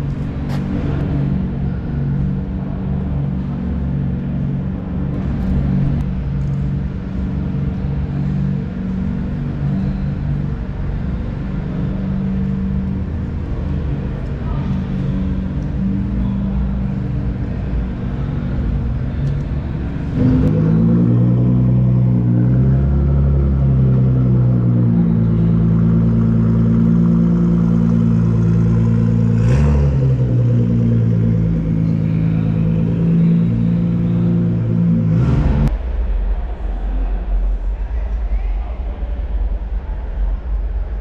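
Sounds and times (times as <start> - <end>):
car engines idling in a hall: 0.0 - 41.0.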